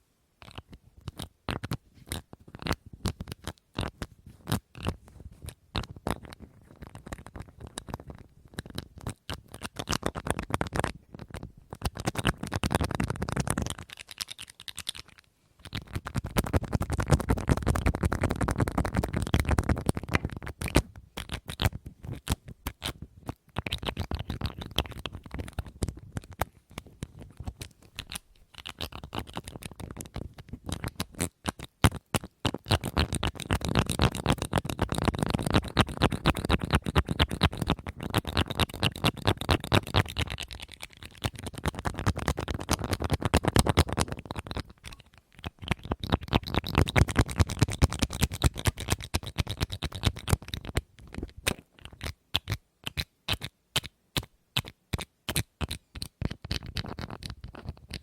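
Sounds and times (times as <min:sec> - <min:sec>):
fingernail tapping and scratching: 0:00.4 - 0:58.0.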